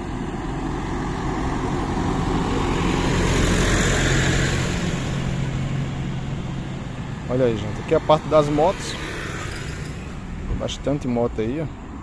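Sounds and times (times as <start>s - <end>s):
vehicle passing close by: 0.0s - 11.9s
low steady engine hum: 0.0s - 12.0s.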